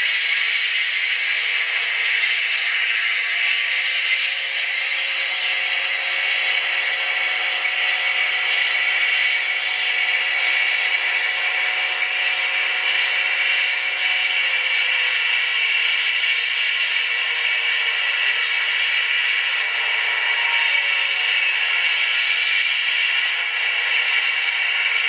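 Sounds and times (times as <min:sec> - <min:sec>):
diesel locomotive engine through small speaker: 0:00.0 - 0:25.0.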